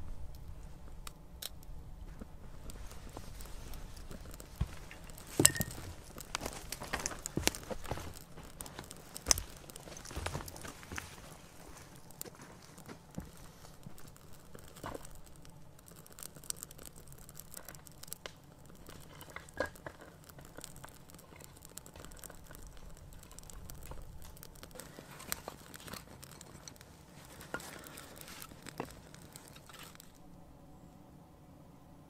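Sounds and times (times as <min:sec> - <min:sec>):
tinder fire crackling and popping: 0:00.0 - 0:30.5.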